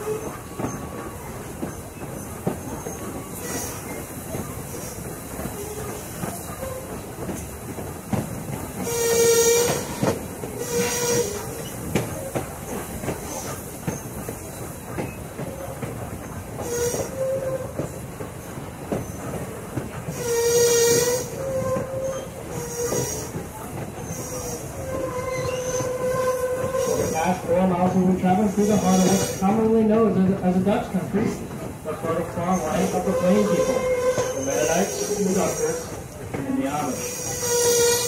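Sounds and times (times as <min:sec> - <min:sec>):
train car rumbling on track: 0:00.0 - 0:38.0.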